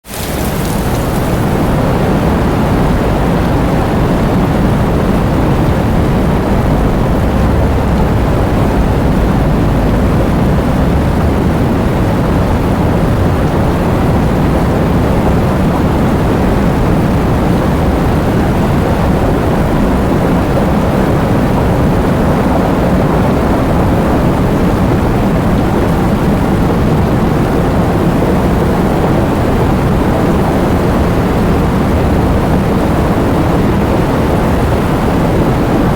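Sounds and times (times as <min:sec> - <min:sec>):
heavy rain and wind: 0:00.0 - 0:35.9.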